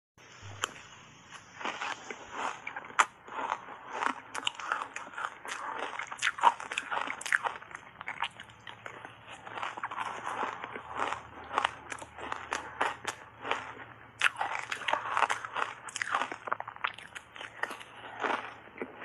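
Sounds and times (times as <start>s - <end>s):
crunchy ice chewing: 0.4s - 19.0s.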